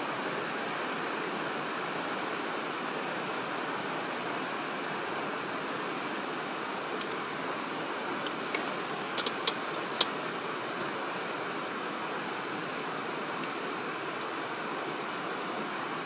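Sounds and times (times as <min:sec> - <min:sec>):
wood fire crackling: 0:02.3 - 0:16.0.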